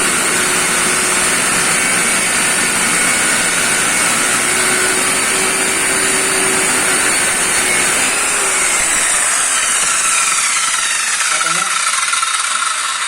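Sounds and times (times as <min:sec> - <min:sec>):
circular saw running: 0:00.0 - 0:13.0.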